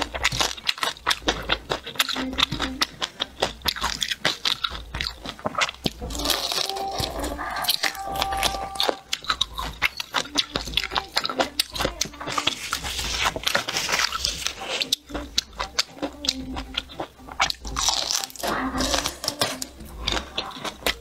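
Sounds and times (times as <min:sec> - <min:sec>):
crunchy chewing: 0:00.0 - 0:21.0
wet mouth sounds: 0:00.0 - 0:21.0.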